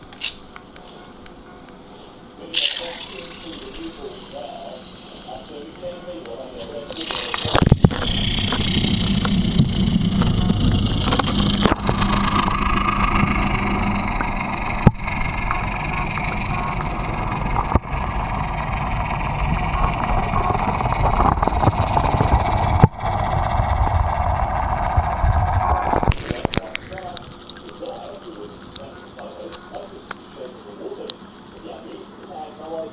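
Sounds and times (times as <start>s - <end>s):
low hum: 0.0s - 32.8s
hot tub jets churning underwater: 2.3s - 32.9s.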